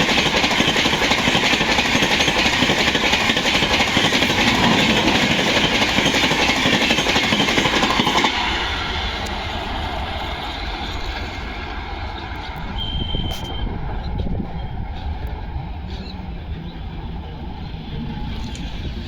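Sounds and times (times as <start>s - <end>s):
passing train rumble: 0.0s - 19.0s.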